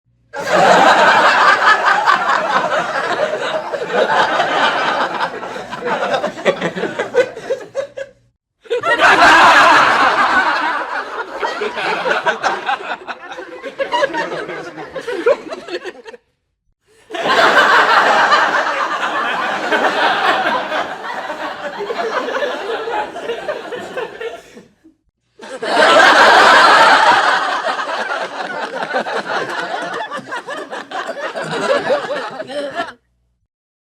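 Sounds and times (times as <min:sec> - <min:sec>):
crowd laughing: 0:00.4 - 0:16.2, 0:17.0 - 0:24.8, 0:25.4 - 0:33.0.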